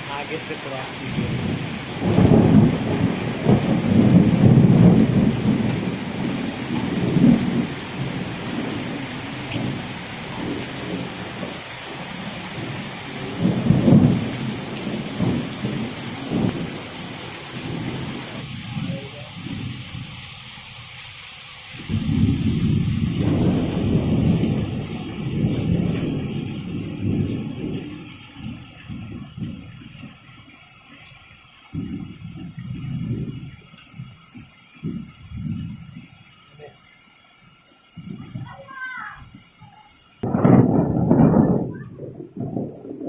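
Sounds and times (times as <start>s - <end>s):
rolling thunder rumbles: 0.0s - 20.2s, 21.8s - 30.5s, 31.7s - 36.4s, 38.0s - 39.5s, 40.2s - 43.0s
heavy rain hiss: 0.0s - 43.0s.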